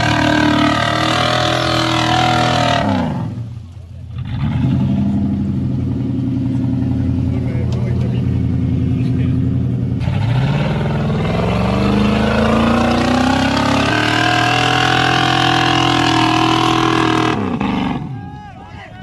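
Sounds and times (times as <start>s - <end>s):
truck engine revving hard: 0.0s - 18.2s.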